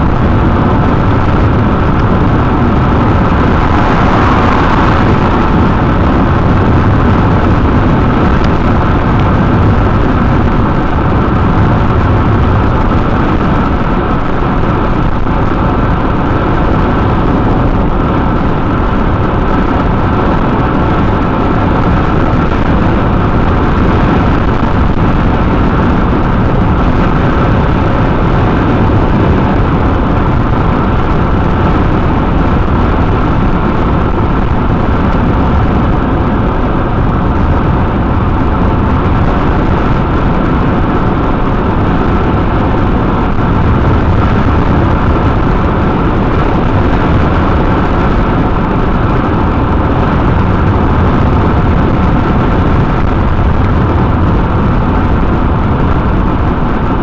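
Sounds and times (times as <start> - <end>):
car road noise: 0.0 - 57.0
faint steady whine: 0.0 - 57.0.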